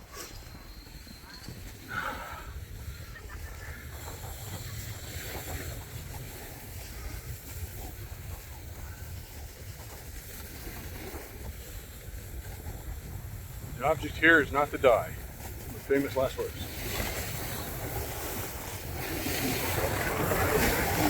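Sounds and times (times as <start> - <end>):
wind buffeting microphone: 0.0 - 21.0
skis sliding on snow hiss: 3.6 - 21.0.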